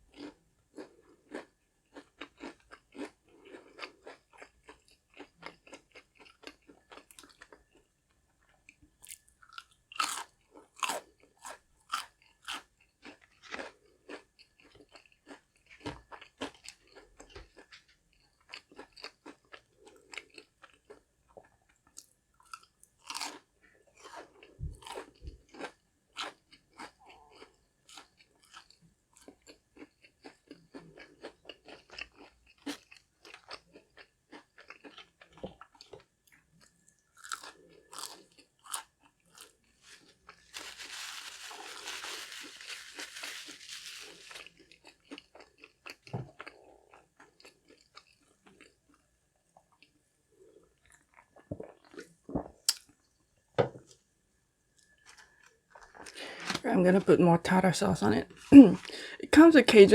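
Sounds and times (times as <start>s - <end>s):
crunching bites and chewing: 0.1s - 7.8s, 9.0s - 49.9s, 50.8s - 53.0s.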